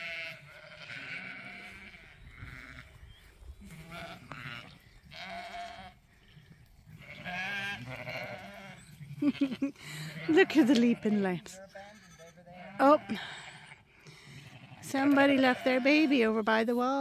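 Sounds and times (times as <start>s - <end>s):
sheep bleating: 0.0s - 3.0s, 3.6s - 6.0s, 6.9s - 13.8s, 14.4s - 16.4s.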